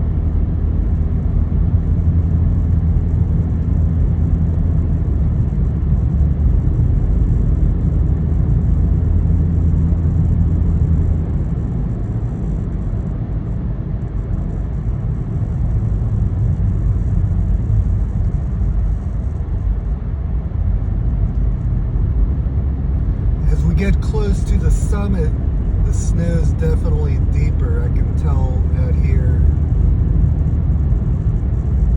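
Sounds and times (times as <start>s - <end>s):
car engine hum: 0.0s - 31.9s
road rumble: 0.0s - 31.9s.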